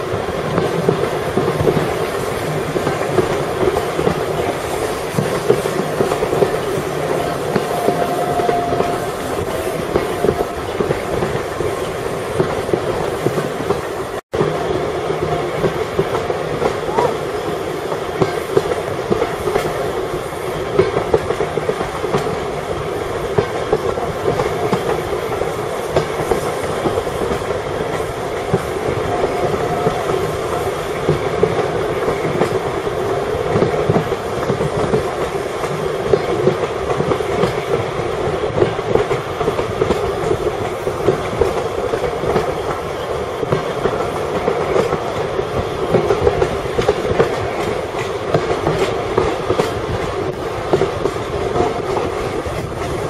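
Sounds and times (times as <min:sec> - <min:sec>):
train rumbling on track: 0:00.0 - 0:53.0.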